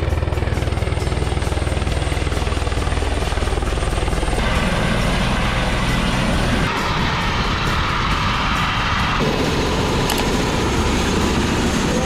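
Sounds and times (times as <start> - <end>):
helicopter rotor beating: 0.0 - 12.0
rushing wind noise: 2.0 - 12.0.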